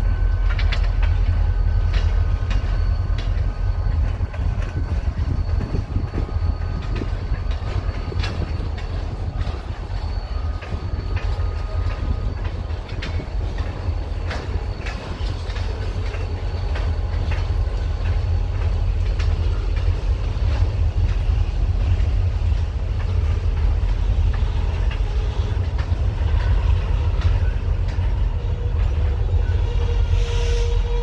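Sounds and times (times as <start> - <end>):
freight train rolling past: 0.0 - 31.0
wheels clicking over rails: 0.0 - 31.0.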